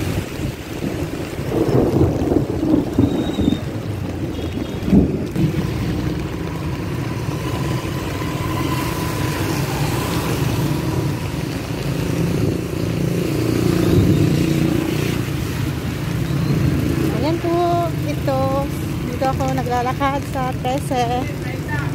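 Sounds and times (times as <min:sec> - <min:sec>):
tyres hissing on wet road: 0:00.0 - 0:21.9
vehicles driving past: 0:00.0 - 0:21.9.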